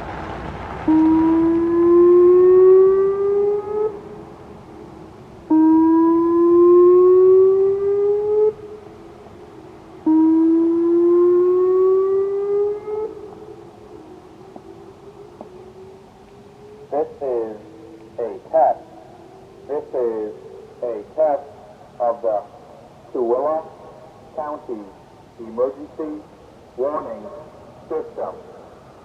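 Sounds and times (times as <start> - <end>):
warning siren rising tones: 0.8 - 24.6.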